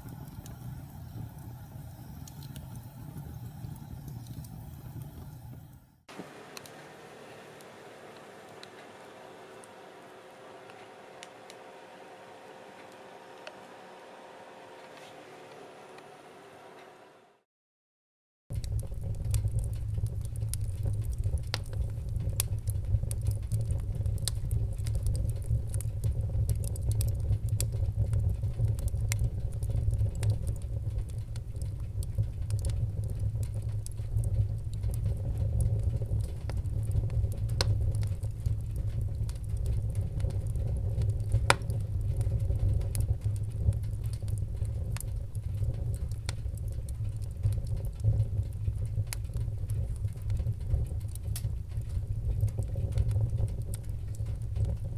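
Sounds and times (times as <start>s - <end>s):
fire crackling and popping: 0.0s - 11.8s, 18.5s - 54.9s
wood fire burning: 0.0s - 16.5s, 18.5s - 54.9s.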